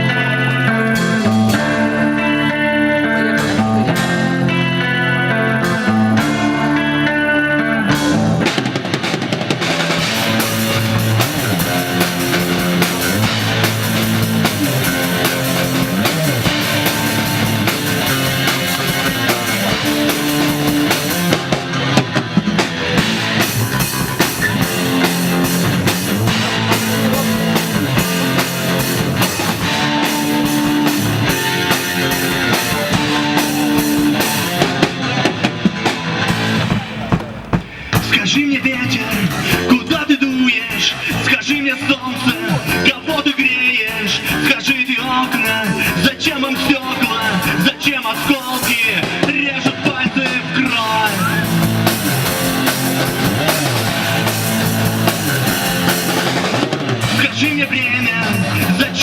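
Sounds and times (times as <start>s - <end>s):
drum kit: 0.0s - 59.0s
rock guitar playing: 0.0s - 59.0s.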